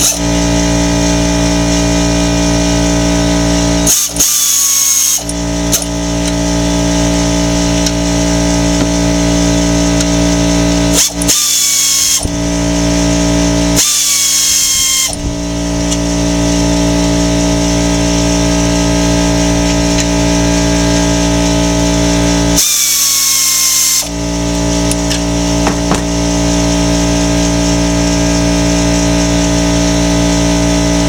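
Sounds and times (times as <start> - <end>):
power tool whine: 0.0 - 31.0
steady mechanical hum: 0.0 - 31.0.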